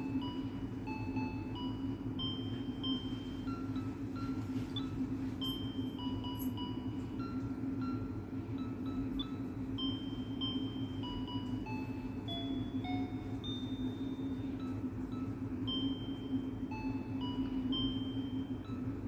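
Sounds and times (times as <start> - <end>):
bell-like melody: 0.0 - 19.0
steady low hum: 0.0 - 19.0.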